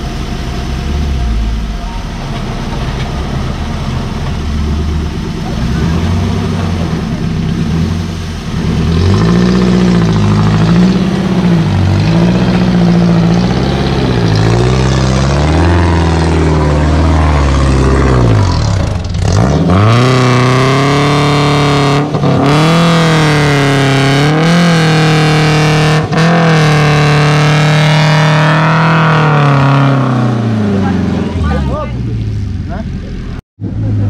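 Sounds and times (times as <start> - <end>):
buggy engine revving: 0.0 - 34.0.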